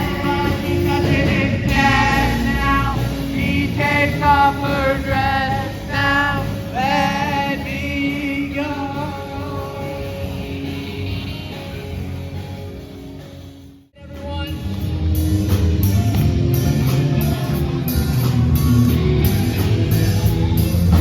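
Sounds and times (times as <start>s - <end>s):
band playing: 0.0s - 21.0s.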